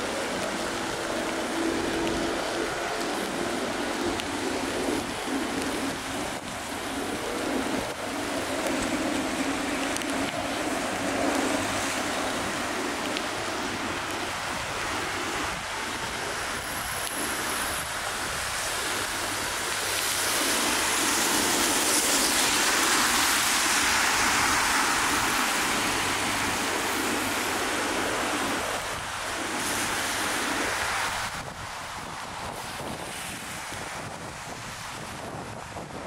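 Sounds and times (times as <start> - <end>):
rain hissing on streets: 0.0 - 36.0
tyres on wet road: 0.0 - 36.0.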